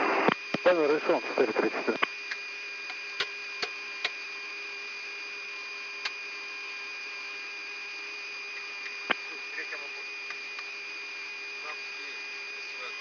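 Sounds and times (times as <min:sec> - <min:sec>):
electrical hum and whine: 0:00.0 - 0:13.0.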